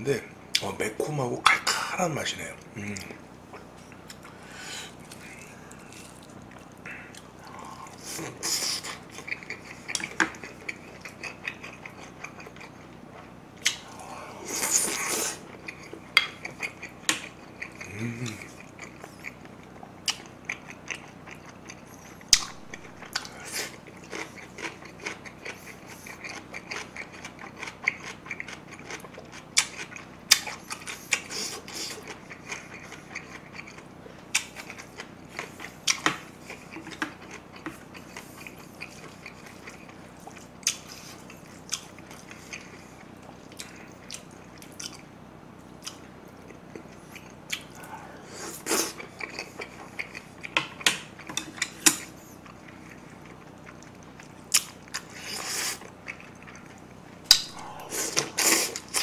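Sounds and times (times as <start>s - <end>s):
chewing and mouth smacking: 5.0s - 13.9s, 14.5s - 45.1s, 45.7s - 59.0s.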